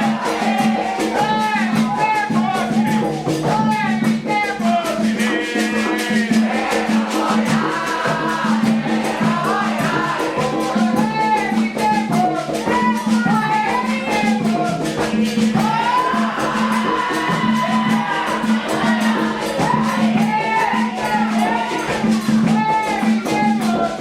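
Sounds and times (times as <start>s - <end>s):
shaken rattles percussion: 0.0s - 24.0s
voices singing a chant: 0.0s - 24.0s.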